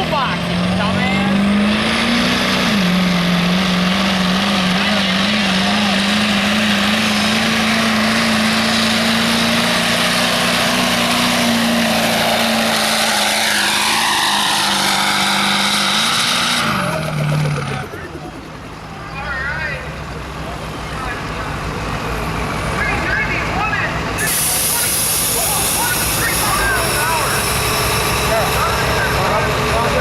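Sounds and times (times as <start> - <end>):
loud mechanical noise: 0.0 - 30.0
truck engine revving hard: 0.0 - 30.0.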